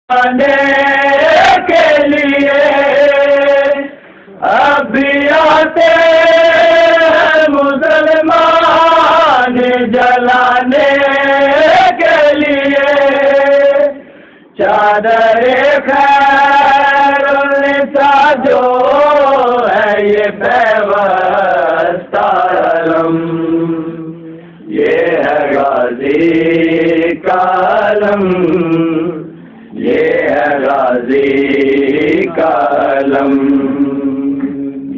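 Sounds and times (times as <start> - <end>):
men chanting in unison: 0.1 - 14.0, 14.6 - 34.8.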